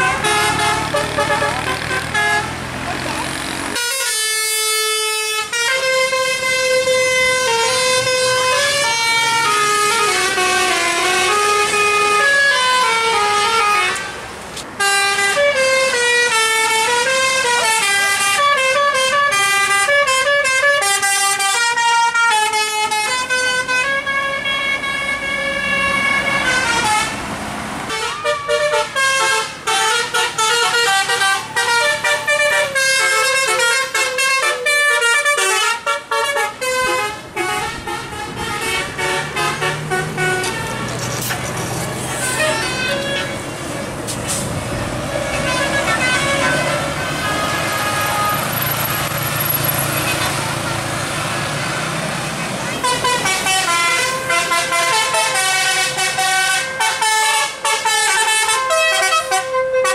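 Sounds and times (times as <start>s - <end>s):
musical bus horn tunes: 0.0s - 2.6s, 3.7s - 14.2s, 14.8s - 27.2s, 27.9s - 43.6s, 45.2s - 50.9s, 52.5s - 59.9s.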